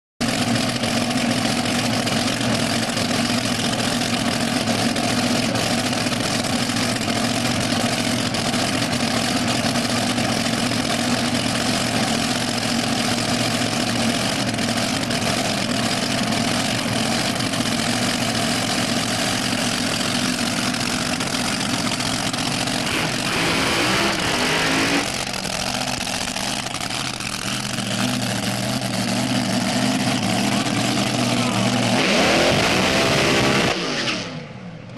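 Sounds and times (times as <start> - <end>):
dragster engine idling: 0.2 - 32.0.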